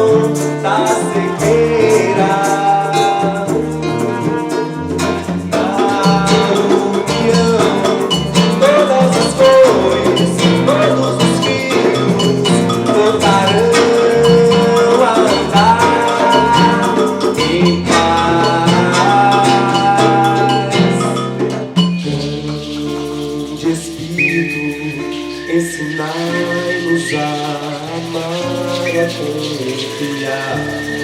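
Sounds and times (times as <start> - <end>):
repeating bass line: 0.0 - 31.0
steady percussion rhythm: 0.0 - 31.0.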